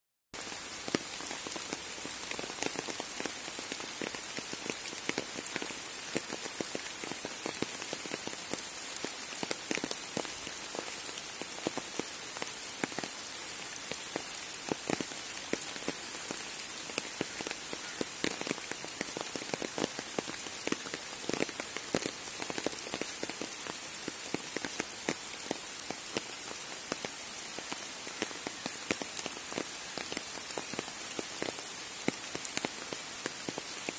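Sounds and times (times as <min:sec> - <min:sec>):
steady rain on trees and grass: 0:00.4 - 0:33.9.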